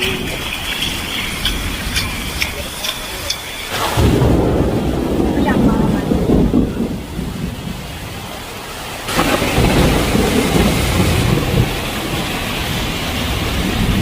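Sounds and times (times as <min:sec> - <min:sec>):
heavy rain pouring: 0:00.0 - 0:14.0
thunder rumbling: 0:00.0 - 0:14.0.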